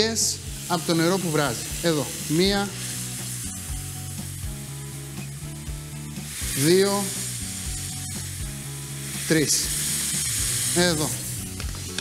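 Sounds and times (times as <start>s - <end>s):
background music with held notes: 0.0s - 12.0s
vegetables sizzling in frying pan: 0.0s - 12.0s.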